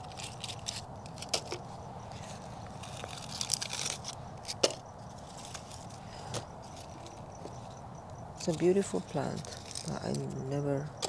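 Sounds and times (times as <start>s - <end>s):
dry leaves crackling: 0.0s - 11.0s.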